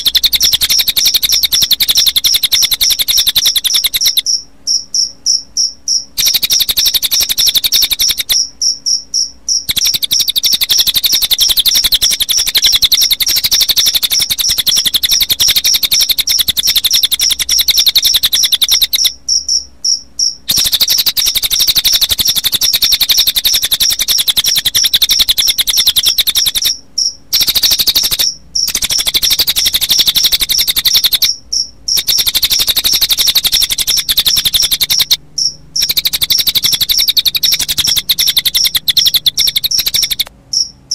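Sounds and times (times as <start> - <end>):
bird song fast trilling: 0.0 - 40.7
crickets chirping: 0.0 - 40.9.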